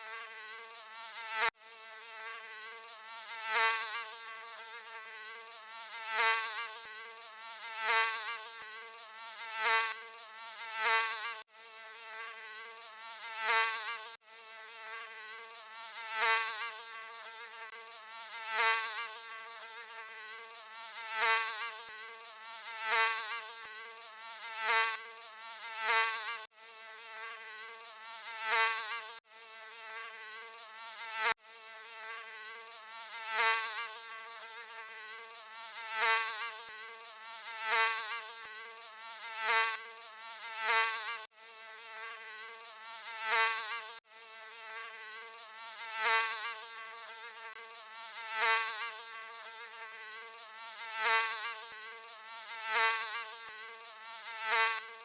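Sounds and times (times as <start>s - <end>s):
mosquito buzzing: 0.0s - 55.0s.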